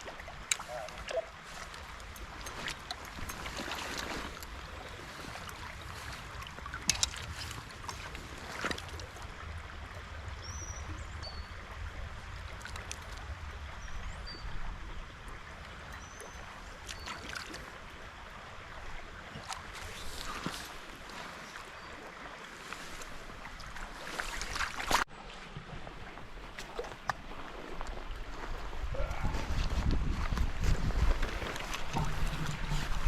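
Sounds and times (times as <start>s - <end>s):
stream water trickling: 0.0s - 33.0s.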